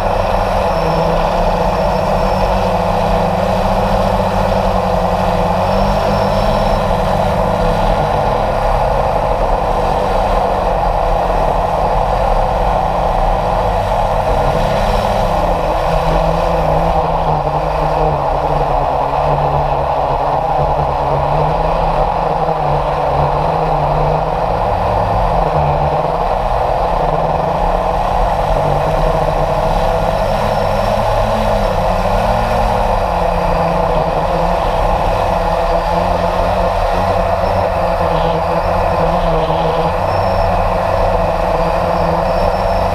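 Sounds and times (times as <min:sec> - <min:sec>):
model jet motor running: 0:00.0 - 0:42.9.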